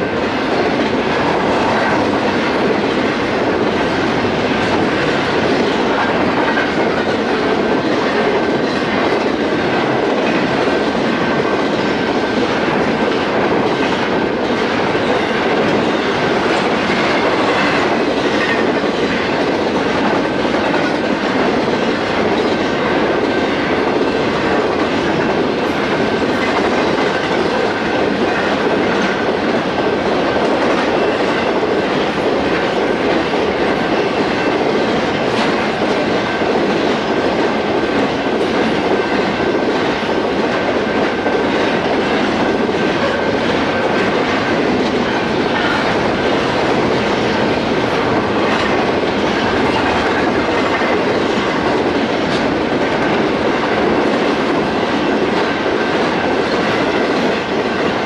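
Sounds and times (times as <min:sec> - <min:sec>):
rumble of wheels on rail: 0:00.0 - 0:58.0
train wheels clacking over rails: 0:00.0 - 0:58.0.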